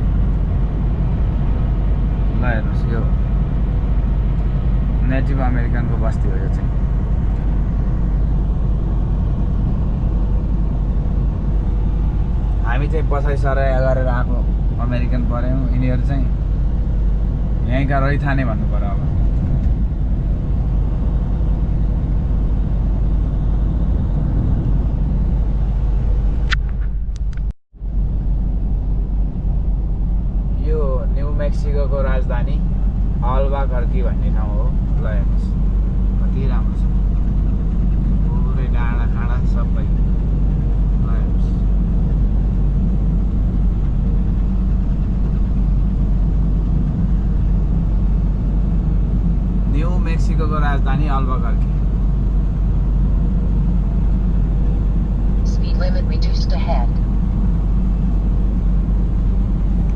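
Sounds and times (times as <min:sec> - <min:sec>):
truck engine and tyres droning: 0:00.0 - 0:59.9.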